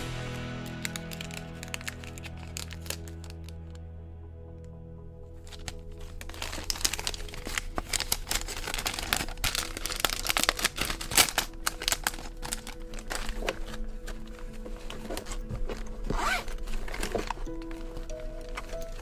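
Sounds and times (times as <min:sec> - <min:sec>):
packaging crinkling: 0:00.6 - 0:03.8, 0:05.4 - 0:19.0.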